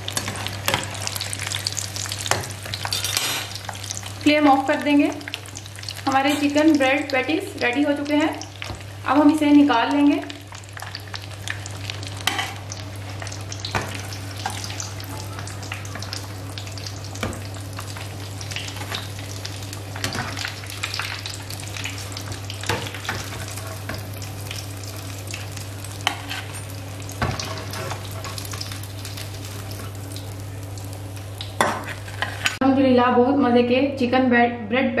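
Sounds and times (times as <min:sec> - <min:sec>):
food deep-frying in hot oil: 0:00.0 - 0:32.6.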